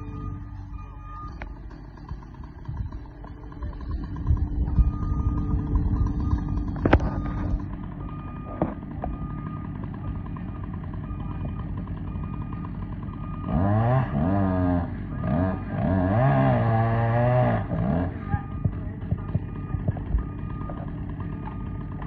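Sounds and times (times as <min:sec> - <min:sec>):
chainsaw revving: 0:01.3 - 0:22.0.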